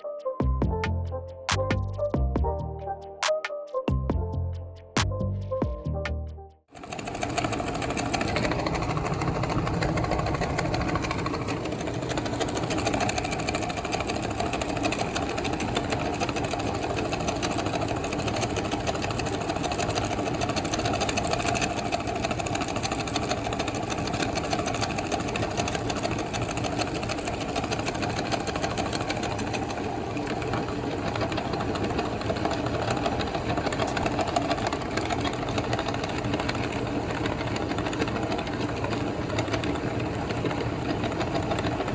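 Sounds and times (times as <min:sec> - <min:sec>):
meat grinder whirring: 0:06.7 - 0:41.9.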